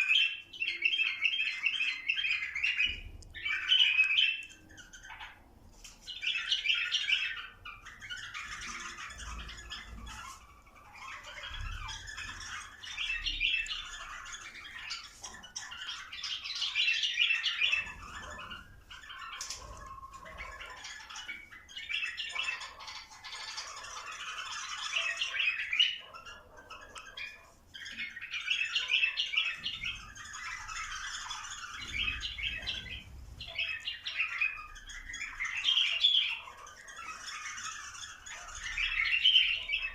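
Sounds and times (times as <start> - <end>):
bulbuls singing: 0.0 - 39.9.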